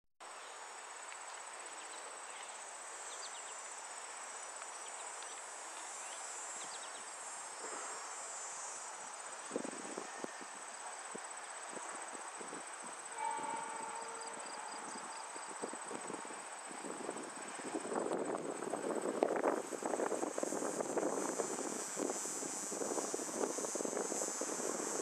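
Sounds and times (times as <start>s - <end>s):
insects trilling: 0.4s - 25.0s.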